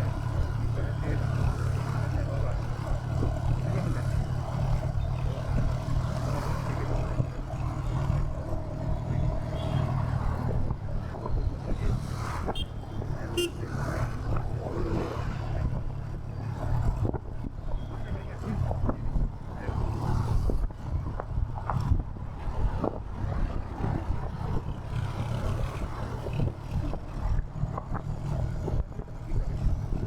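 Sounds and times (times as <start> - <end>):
street noise: 0.0 - 30.0.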